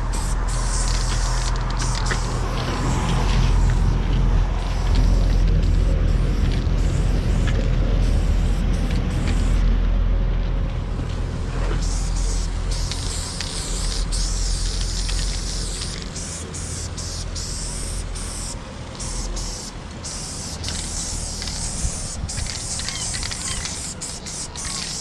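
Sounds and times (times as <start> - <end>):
spray paint can hissing: 0.0 - 9.6, 11.2 - 25.0
low steady rumble: 0.0 - 24.2.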